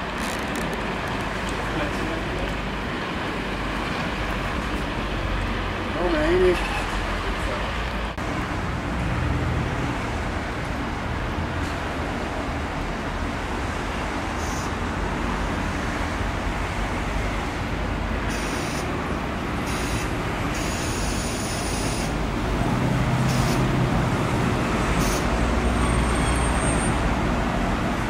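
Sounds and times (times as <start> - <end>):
diesel railcar rumbling: 0.0 - 28.0.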